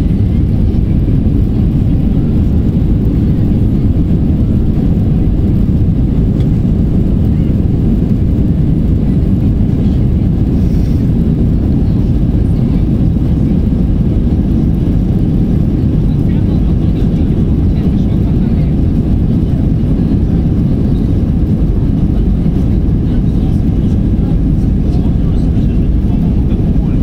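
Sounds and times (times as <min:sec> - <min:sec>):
airliner engines and wheels rumbling: 0:00.0 - 0:27.0.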